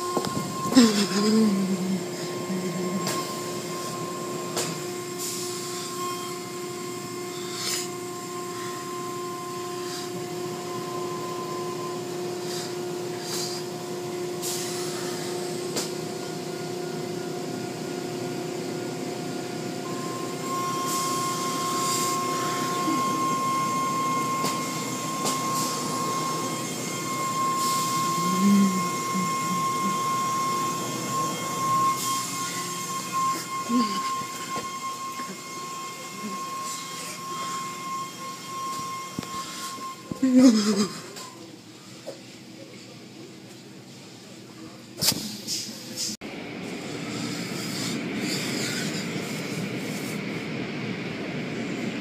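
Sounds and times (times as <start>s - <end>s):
car wash machinery hum: 0.0s - 52.0s.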